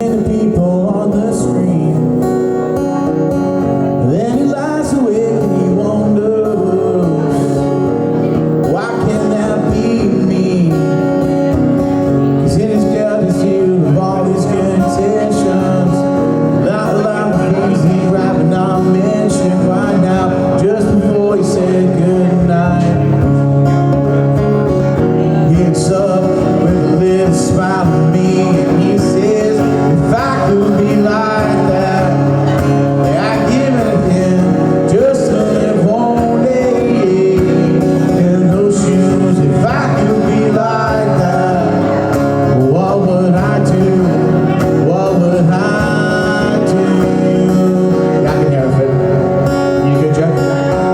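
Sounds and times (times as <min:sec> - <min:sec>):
acoustic guitar: 0:00.0 - 0:50.9
man singing: 0:00.0 - 0:50.9.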